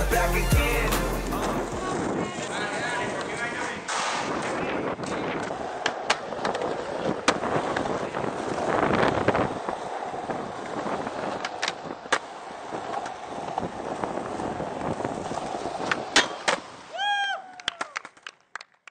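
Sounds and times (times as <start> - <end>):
skateboard wheels rolling on concrete: 0.0 - 18.9
skateboard clacks: 1.4 - 18.9.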